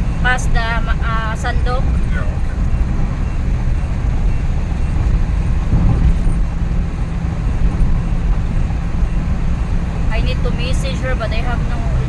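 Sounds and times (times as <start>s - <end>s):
tyre and road noise: 0.0s - 12.0s
van engine running: 0.0s - 12.0s.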